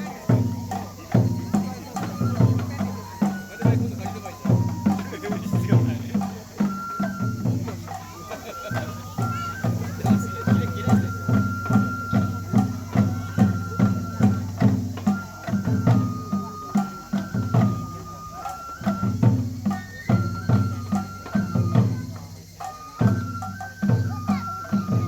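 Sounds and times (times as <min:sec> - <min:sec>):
bamboo flute melody: 0:00.0 - 0:25.0
festival drums beating: 0:00.0 - 0:25.0.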